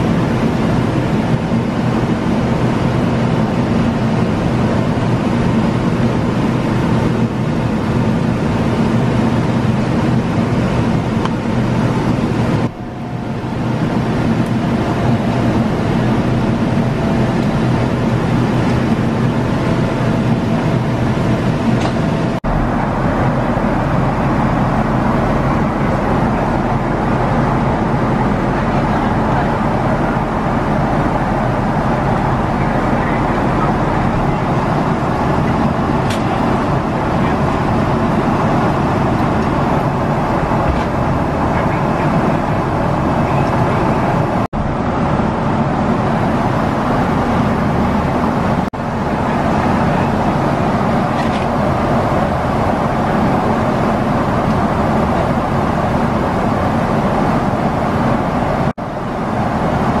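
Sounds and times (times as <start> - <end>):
airplane cabin roar: 0.0 - 60.0.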